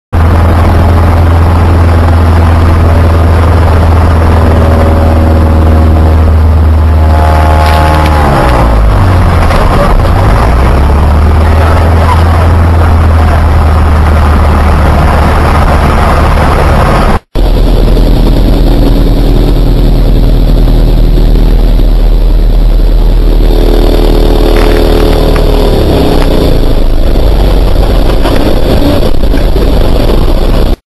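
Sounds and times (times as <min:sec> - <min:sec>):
aircraft engine drone: 0:00.2 - 0:30.8.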